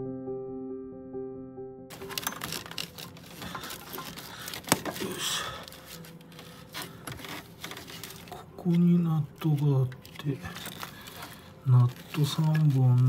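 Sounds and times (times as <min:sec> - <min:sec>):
hands rustling in engine bay: 0:01.9 - 0:13.0.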